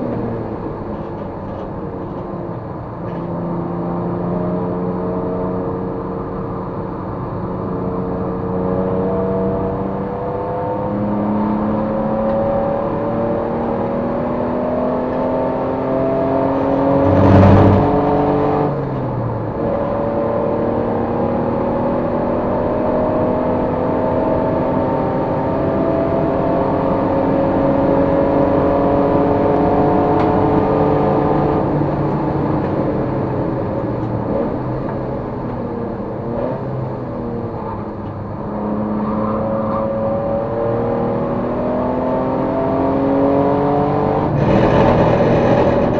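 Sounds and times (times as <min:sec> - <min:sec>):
racing engine revving under load: 0:07.7 - 0:45.9.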